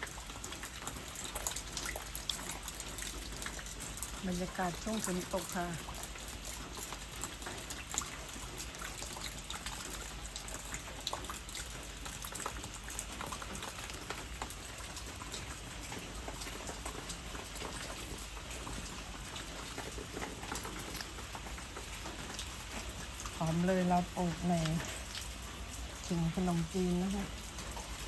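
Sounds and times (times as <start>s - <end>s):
raindrop ticks: 0.0s - 28.0s
steady hiss of rain: 0.0s - 28.0s.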